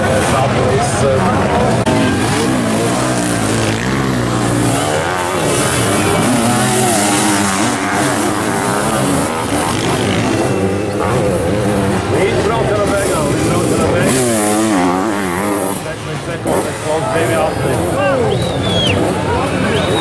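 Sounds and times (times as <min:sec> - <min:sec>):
motocross engines revving: 0:00.0 - 0:20.0.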